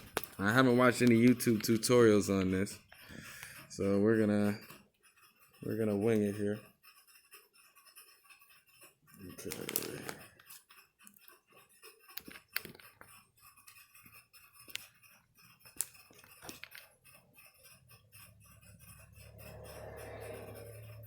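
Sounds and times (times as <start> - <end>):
small parts clicking and tapping: 0.0 - 21.0.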